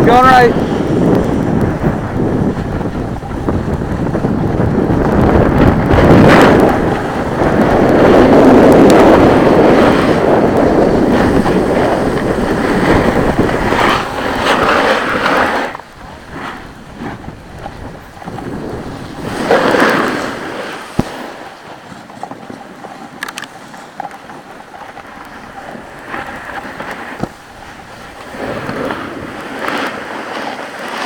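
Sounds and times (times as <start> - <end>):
snowboard scraping over snow: 0.0 - 31.0
wind rushing over microphone: 0.0 - 31.0.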